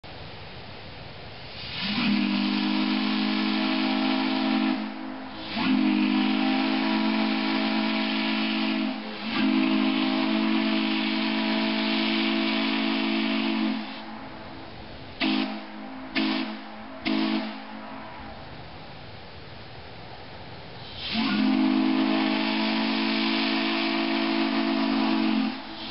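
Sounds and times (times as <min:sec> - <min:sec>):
hiss of escaping steam: 0:01.2 - 0:25.9
steam whistle blasts: 0:01.6 - 0:18.8, 0:20.8 - 0:25.9.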